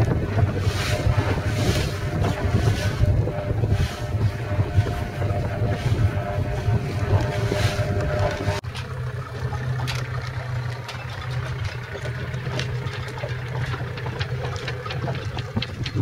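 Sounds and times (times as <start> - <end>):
boat engine running: 0.0 - 16.0
water splashes: 0.0 - 16.0.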